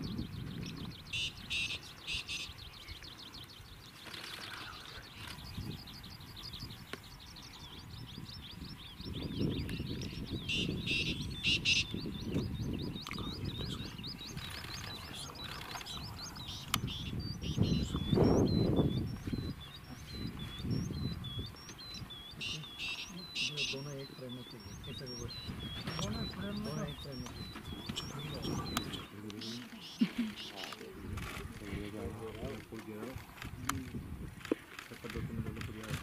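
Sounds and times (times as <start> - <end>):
birds chirping rapidly: 0.0 - 36.0
sharp bird calls: 0.0 - 36.0.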